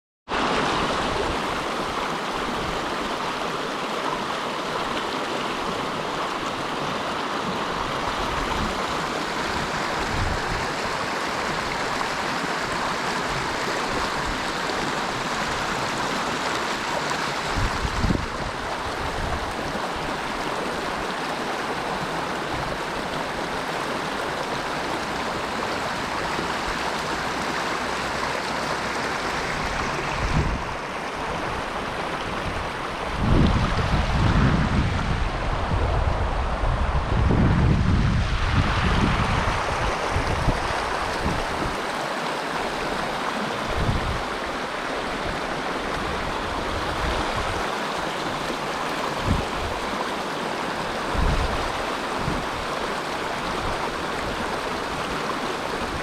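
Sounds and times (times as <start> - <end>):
water rushing in a stream: 0.3 - 56.0.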